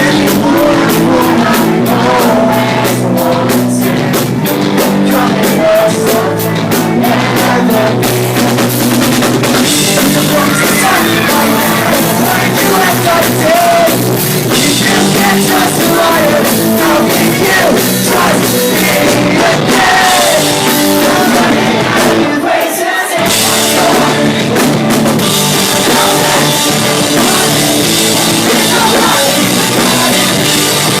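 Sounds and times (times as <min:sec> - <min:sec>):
pop-punk band playing live: 0:00.0 - 0:31.0.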